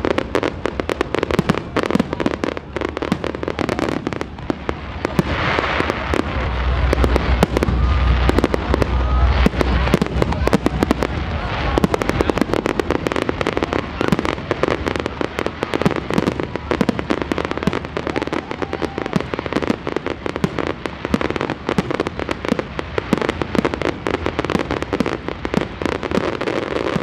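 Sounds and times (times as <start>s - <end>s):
firework bangs: 0.0s - 27.0s
firework crackling: 0.0s - 27.0s.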